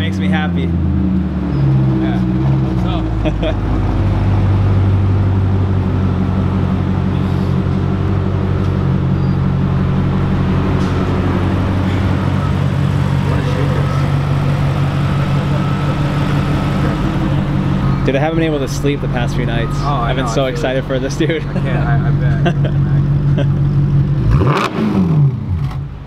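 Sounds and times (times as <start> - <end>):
car engine idling: 0.0 - 24.6.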